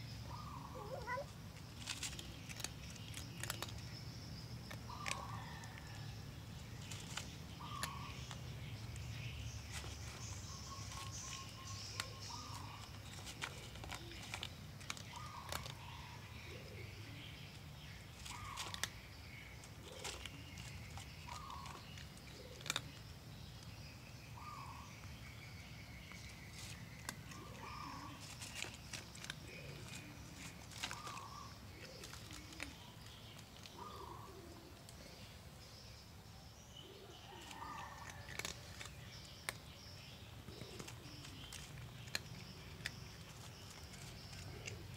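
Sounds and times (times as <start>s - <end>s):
birds calling: 0.0s - 44.9s
cat crunching dry kibble: 0.9s - 24.1s, 25.0s - 33.8s, 37.6s - 44.9s.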